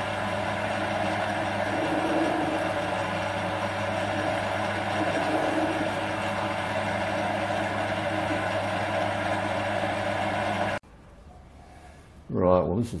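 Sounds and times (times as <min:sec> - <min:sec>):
metal lathe motor whine: 0:00.0 - 0:10.8.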